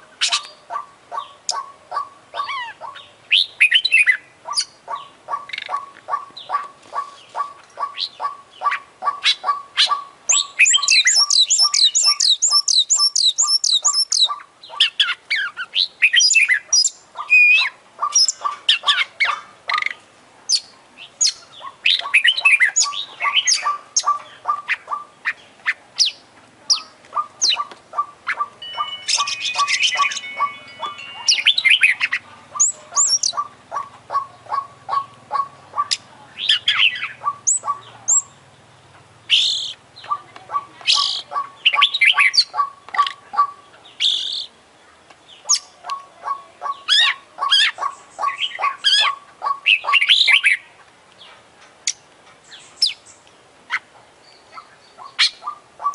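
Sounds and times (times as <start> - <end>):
songbird singing varied song: 0.0 - 55.9.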